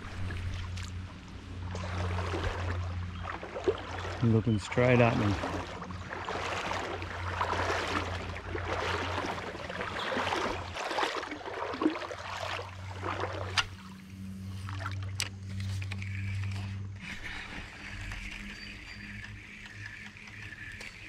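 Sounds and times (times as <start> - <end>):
water sloshing from wading: 0.0 - 21.0.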